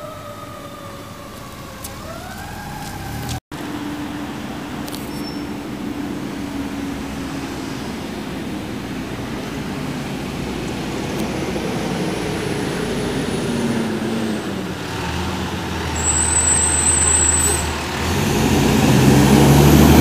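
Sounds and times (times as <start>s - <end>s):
fire truck engine running: 0.0s - 20.0s.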